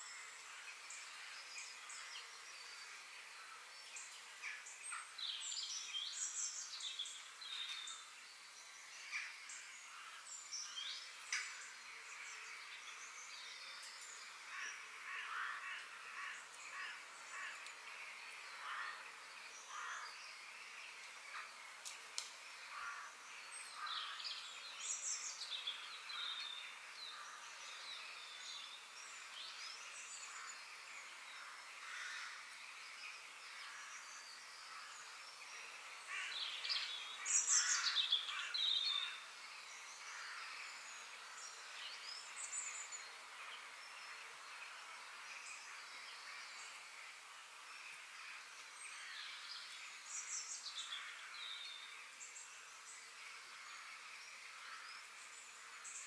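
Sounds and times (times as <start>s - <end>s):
forest birds singing: 0.0s - 56.0s
steady background hiss: 0.0s - 56.0s.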